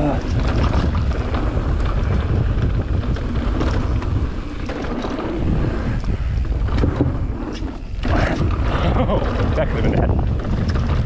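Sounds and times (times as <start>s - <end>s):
bike rattles and clicks: 0.0s - 11.0s
tyres rolling over dirt: 0.0s - 11.0s
wind rushing over microphone: 0.0s - 11.0s.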